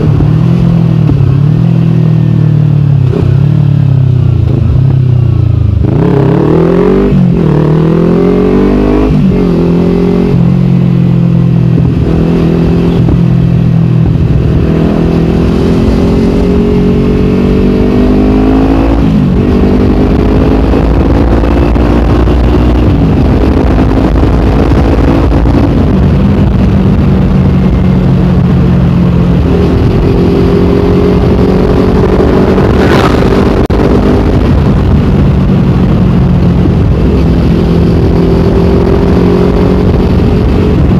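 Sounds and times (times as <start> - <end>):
motorcycle engine shifting up gears: 0.0 - 40.9.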